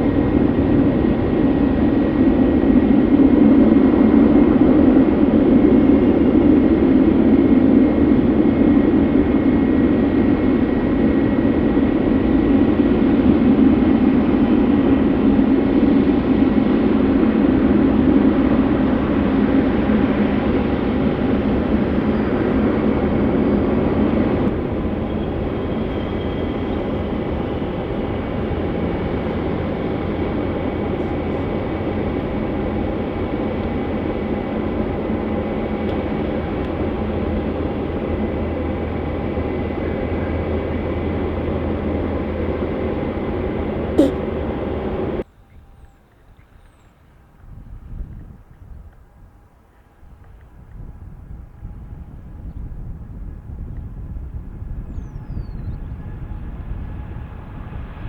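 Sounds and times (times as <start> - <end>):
jet airliner engine rumble: 0.0 - 46.1, 50.4 - 58.0.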